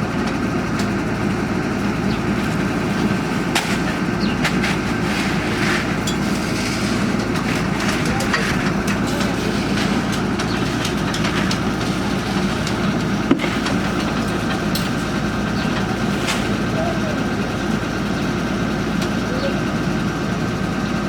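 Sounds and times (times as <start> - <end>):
drilling rig engine running: 0.0 - 21.0.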